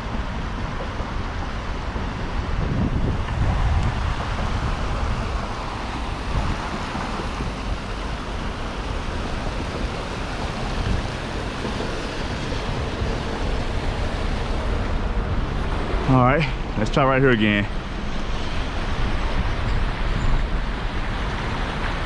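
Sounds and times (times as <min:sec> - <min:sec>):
water rushing through spillway: 0:00.0 - 0:22.0
wind buffeting microphone: 0:00.0 - 0:22.0.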